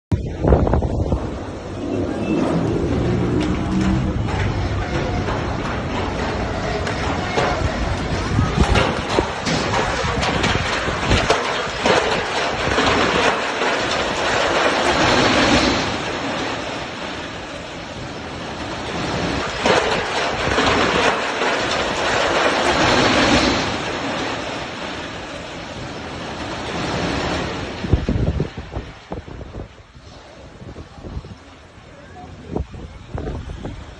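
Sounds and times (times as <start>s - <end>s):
strong gusting wind: 0.1s - 33.9s.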